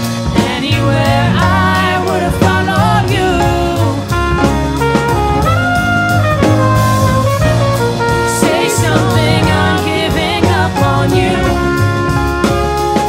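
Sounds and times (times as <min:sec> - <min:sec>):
slow instrumental ballad: 0:00.0 - 0:13.0.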